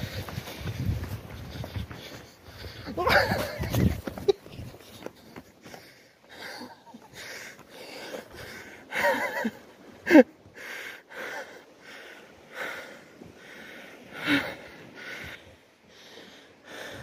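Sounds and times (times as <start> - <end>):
person panting hard: 0.0 - 9.4, 10.1 - 17.0.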